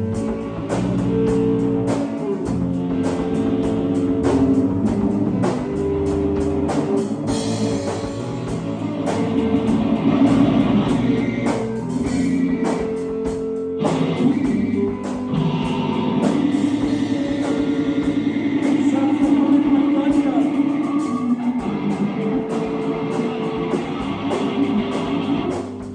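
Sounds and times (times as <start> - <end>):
drum kit: 0.0 - 25.9
electric guitar: 0.0 - 25.9.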